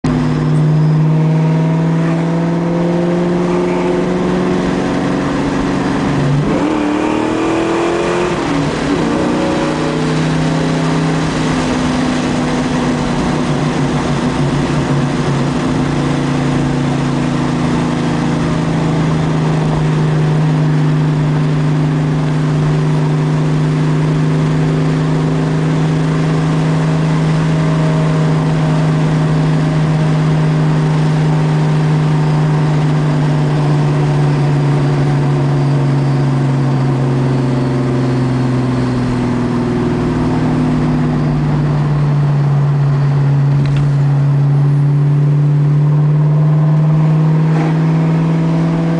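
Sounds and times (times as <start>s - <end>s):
car engine at high revs: 0.0s - 48.9s.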